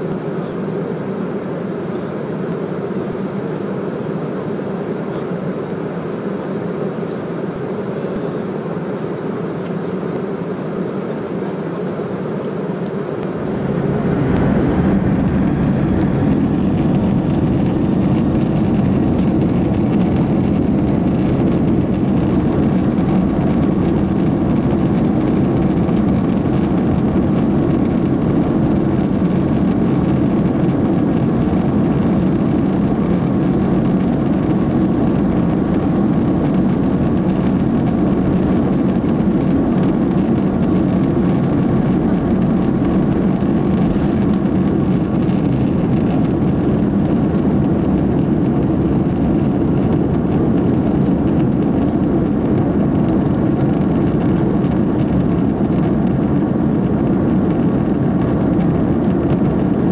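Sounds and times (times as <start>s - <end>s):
jet engines at high thrust: 0.0s - 59.9s
wheels rumbling on runway: 0.0s - 59.9s.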